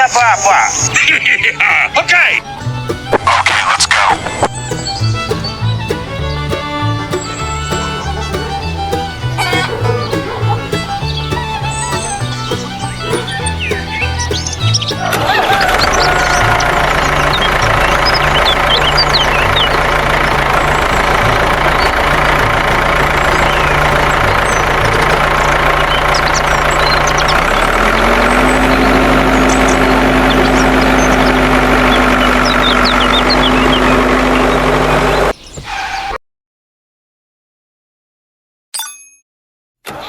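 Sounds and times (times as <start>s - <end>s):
motor humming: 1.6s - 35.3s.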